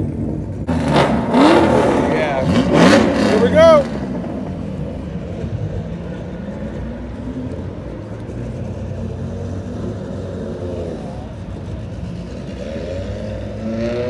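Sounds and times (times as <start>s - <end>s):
car engine revving up: 0.0s - 14.0s
car engines rumbling: 0.0s - 14.0s.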